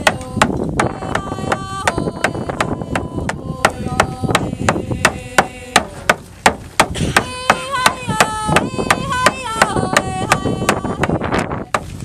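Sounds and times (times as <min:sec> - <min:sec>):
women singing held notes: 0:00.0 - 0:06.1, 0:07.1 - 0:11.7.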